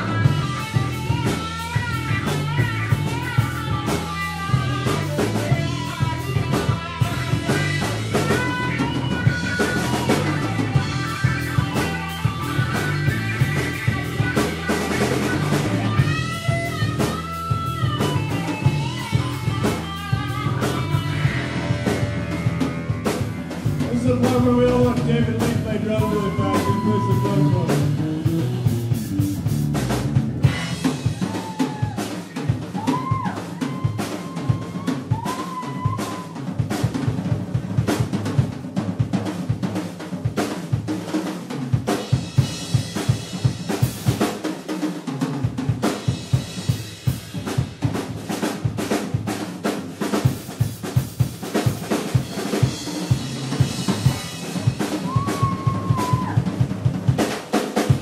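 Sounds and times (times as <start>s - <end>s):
rock drum solo: 0.0s - 58.0s.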